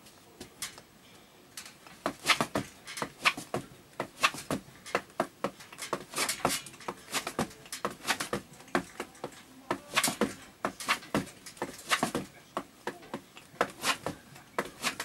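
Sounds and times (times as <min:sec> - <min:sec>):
tap shoes clicking on floor: 0:02.1 - 0:15.0.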